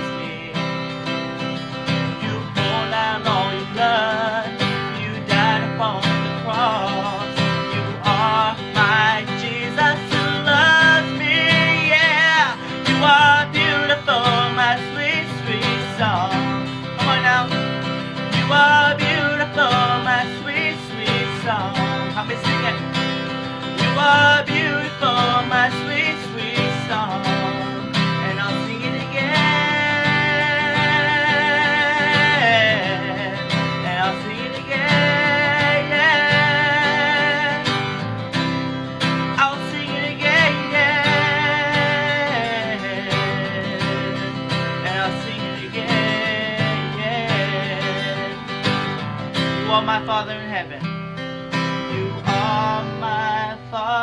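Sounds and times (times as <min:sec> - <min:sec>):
man singing: 0:00.0 - 0:54.0
strummed acoustic guitar: 0:00.0 - 0:54.0.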